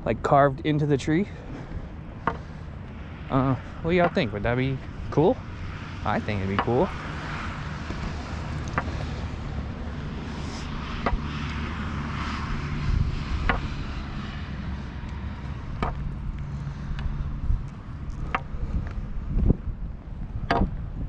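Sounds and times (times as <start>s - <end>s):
distant motor traffic drone: 0.0s - 21.0s.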